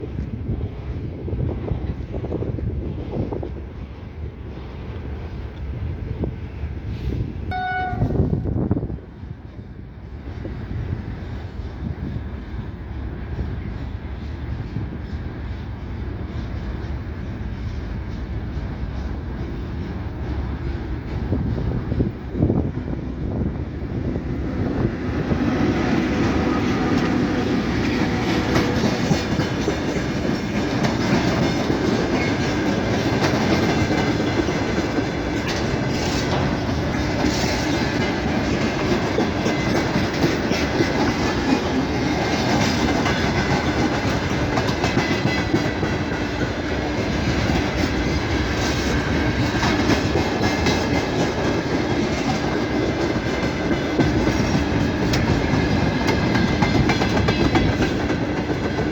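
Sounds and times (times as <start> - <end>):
train wheels clattering: 9.2 - 58.9.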